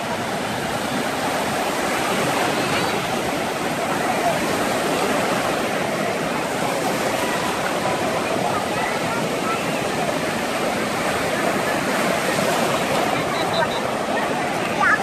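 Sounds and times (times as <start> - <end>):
faint distant voices: 1.6 - 15.0.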